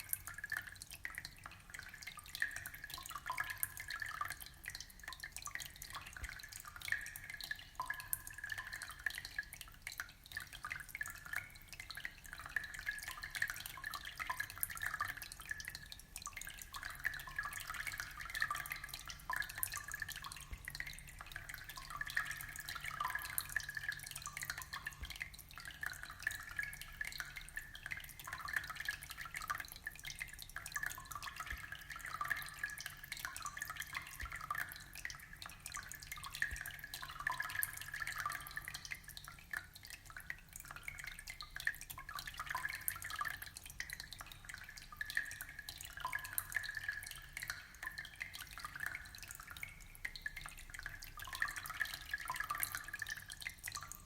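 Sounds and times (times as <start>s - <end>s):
aquarium water trickling and bubbling: 0.0s - 54.0s.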